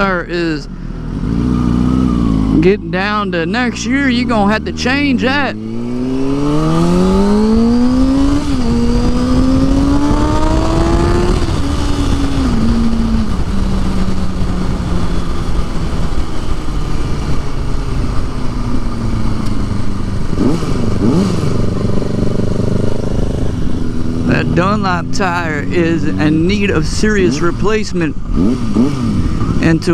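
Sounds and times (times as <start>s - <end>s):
motorcycle engine pulling hard: 0.7s - 2.8s, 3.5s - 29.9s
wind noise: 5.6s - 29.9s.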